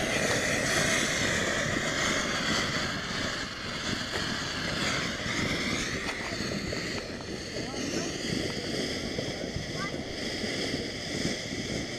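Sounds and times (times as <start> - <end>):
firework fountain hissing: 0.0 - 11.9.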